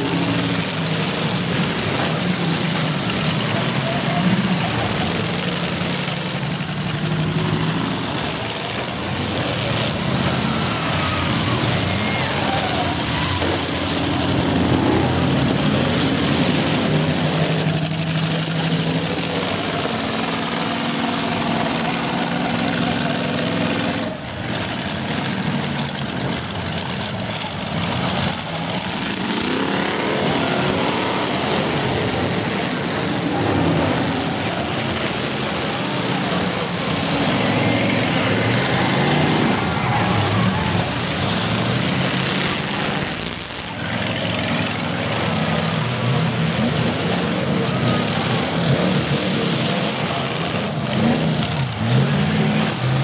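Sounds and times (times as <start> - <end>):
car engines revving hard: 0.0 - 53.0.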